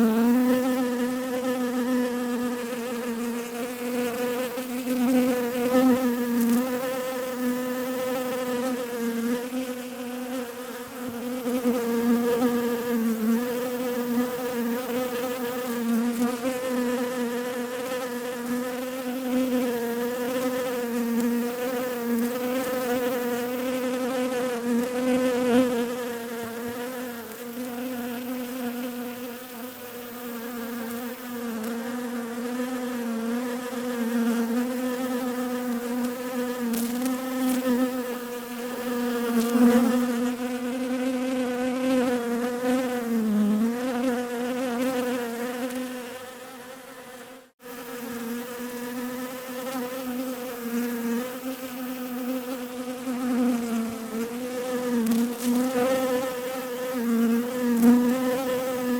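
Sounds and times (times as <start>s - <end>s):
bees buzzing: 0.0s - 58.9s.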